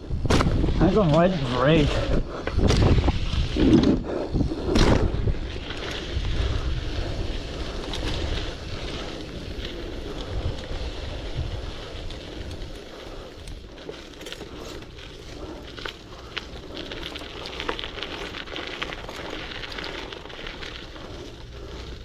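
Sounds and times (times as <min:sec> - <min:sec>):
bicycle rolling on dirt: 0:00.0 - 0:22.0
wind buffeting microphone: 0:00.0 - 0:22.0.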